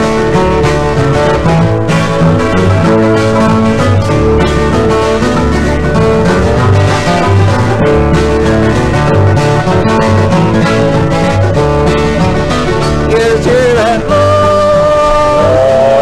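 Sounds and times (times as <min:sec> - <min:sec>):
banjo picking: 0:00.0 - 0:16.0
bass notes: 0:00.0 - 0:16.0
guitar picking: 0:00.0 - 0:16.0.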